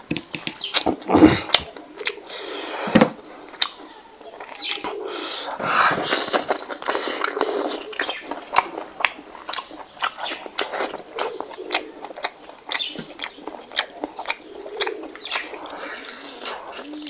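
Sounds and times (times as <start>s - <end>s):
wet chewing and lip-smacking: 0.7s - 2.6s, 3.5s - 17.0s.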